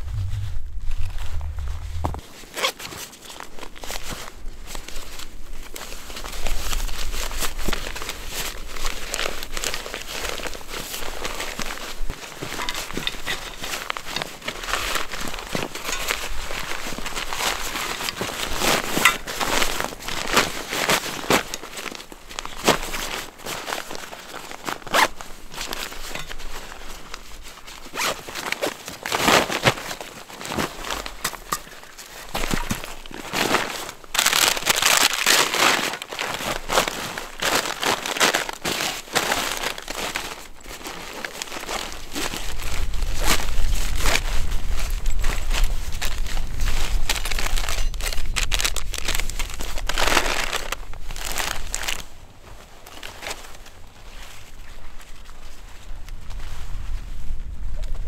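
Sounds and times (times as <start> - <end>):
fabric sack crinkling and rustling: 0.0 - 58.0.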